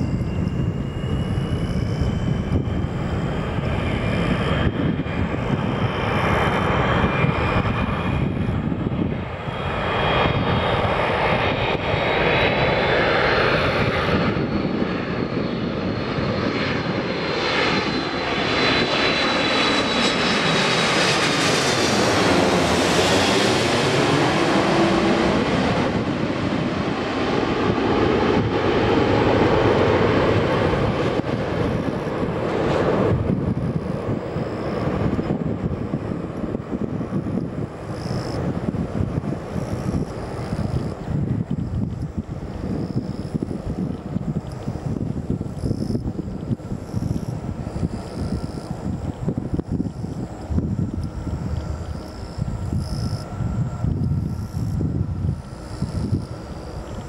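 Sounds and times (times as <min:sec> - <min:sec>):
jet engines passing overhead: 0:00.0 - 0:57.0.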